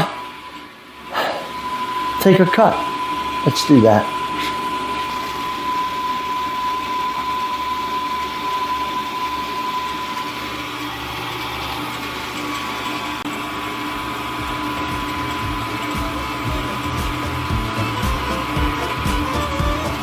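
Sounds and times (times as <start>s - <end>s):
end mill cutting aluminum: 0.0s - 20.0s
milling machine motor whine: 0.0s - 20.0s.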